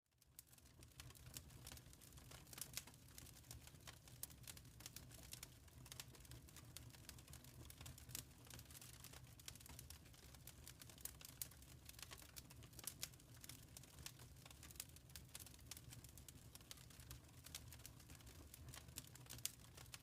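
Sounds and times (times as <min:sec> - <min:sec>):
wood fire crackling: 0:00.1 - 0:20.0.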